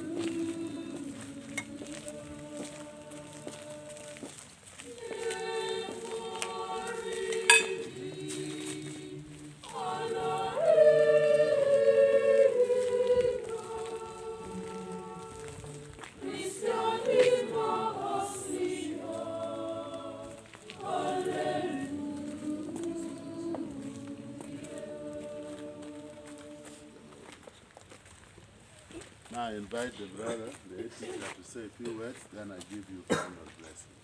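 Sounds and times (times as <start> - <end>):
group of voices singing: 0.0 - 27.3.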